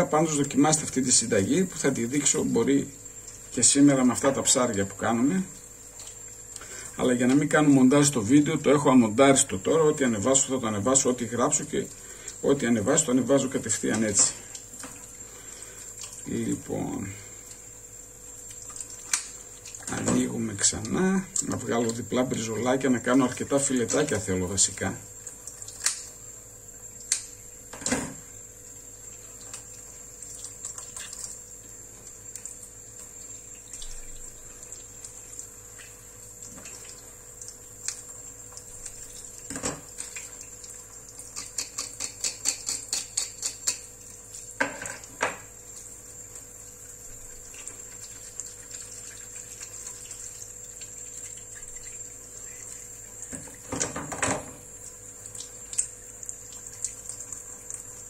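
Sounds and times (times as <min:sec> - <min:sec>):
faint hum with high tone: 0:00.0 - 0:58.0.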